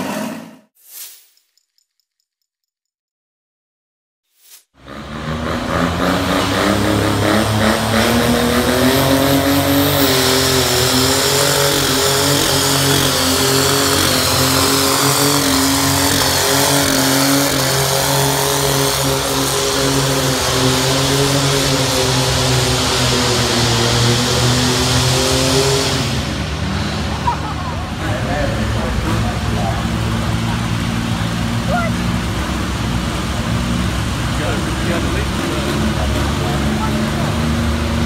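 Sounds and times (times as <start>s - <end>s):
diesel engine running under load: 4.8s - 38.0s.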